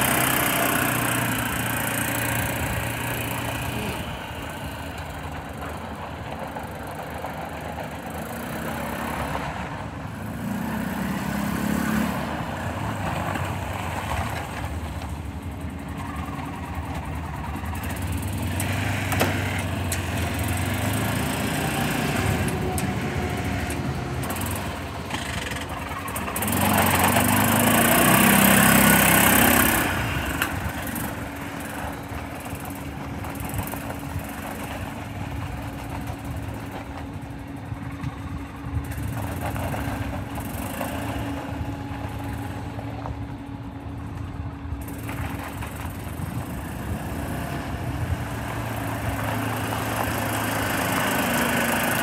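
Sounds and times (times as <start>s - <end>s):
utility vehicle engine on gravel: 0.0s - 52.0s.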